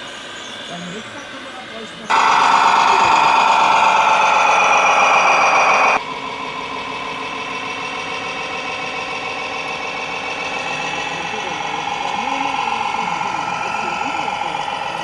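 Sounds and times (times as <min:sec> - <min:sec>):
model truck motor whine: 0:02.1 - 0:15.0.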